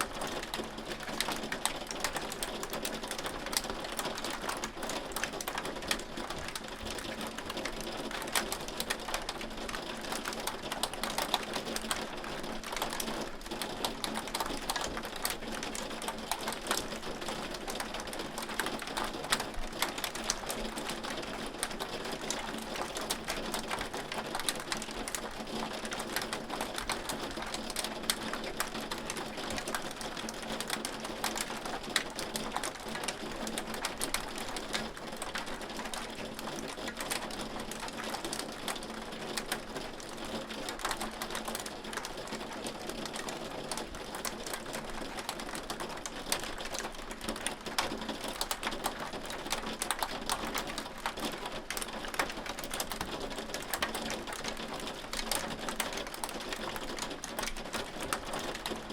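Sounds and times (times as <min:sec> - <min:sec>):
hail pelting a hard surface: 0:00.0 - 0:58.9.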